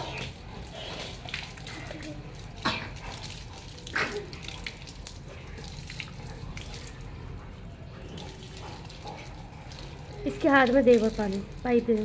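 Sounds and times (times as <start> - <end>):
water gushing from hose: 0.0 - 12.0
water splashing on stone floor: 0.0 - 12.0.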